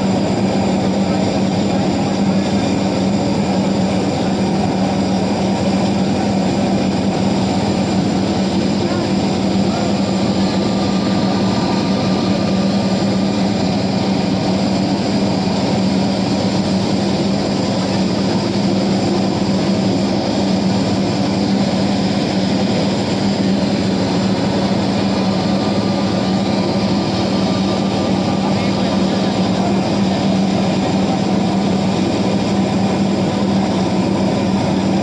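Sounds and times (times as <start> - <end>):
airplane engines droning: 0.0 - 35.0.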